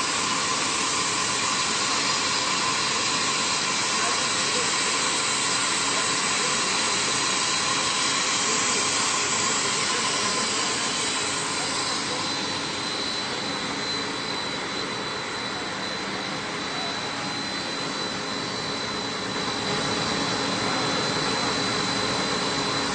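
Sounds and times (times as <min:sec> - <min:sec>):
machinery whirring hiss: 0:00.0 - 0:22.9.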